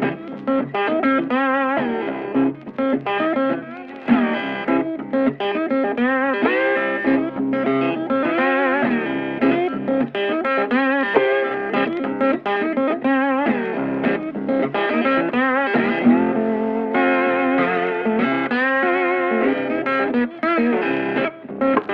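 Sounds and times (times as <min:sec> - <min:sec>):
backing music: 0:00.0 - 0:21.9
electric guitar lead with vibrato: 0:00.0 - 0:21.9.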